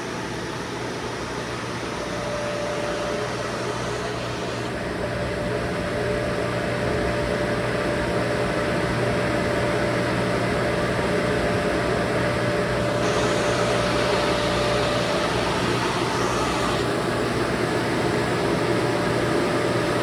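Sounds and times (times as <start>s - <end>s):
air-conditioning blower rush: 0.0s - 20.0s
faint steady whine: 0.0s - 20.0s.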